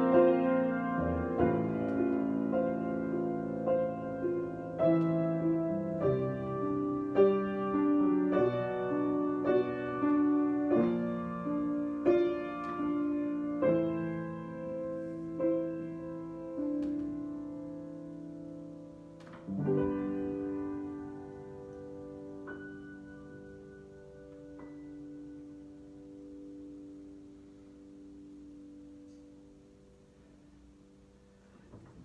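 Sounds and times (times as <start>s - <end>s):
slow piano chords: 0.0s - 32.0s.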